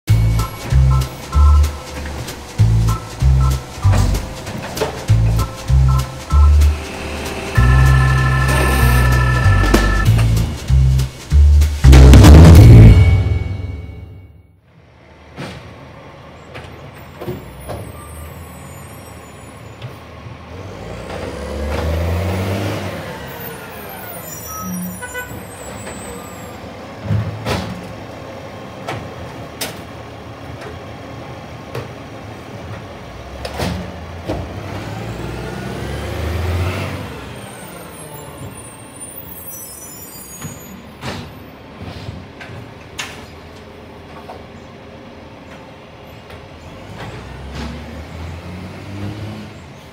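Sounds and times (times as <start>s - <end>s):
garbage truck engine: 0.1s - 49.9s.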